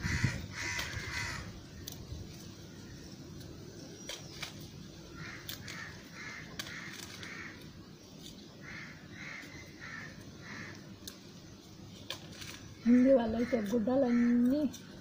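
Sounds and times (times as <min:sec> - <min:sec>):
bird calling: 0:00.0 - 0:15.0.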